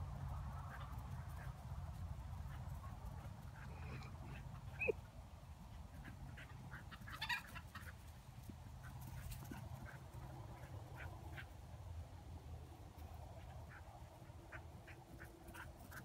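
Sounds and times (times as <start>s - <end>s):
chickens clucking: 0.2s - 11.7s, 12.6s - 16.0s.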